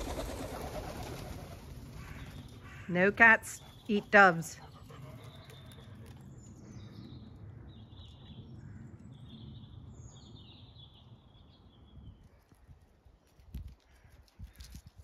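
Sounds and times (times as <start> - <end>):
songbirds chirping: 0.0 - 14.8.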